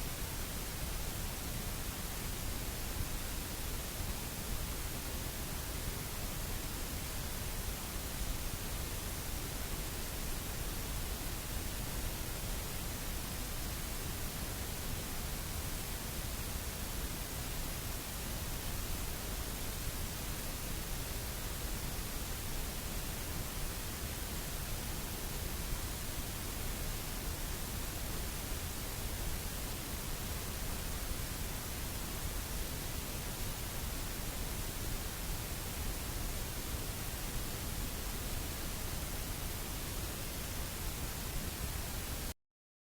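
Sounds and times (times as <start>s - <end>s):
steady background hiss: 0.0s - 42.4s.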